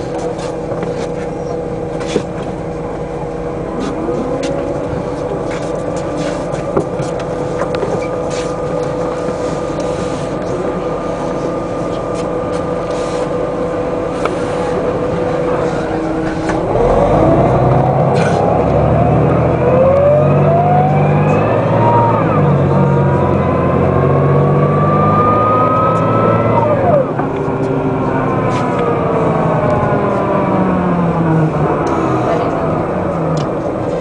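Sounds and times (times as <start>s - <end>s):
bus engine whining: 0.0s - 34.0s.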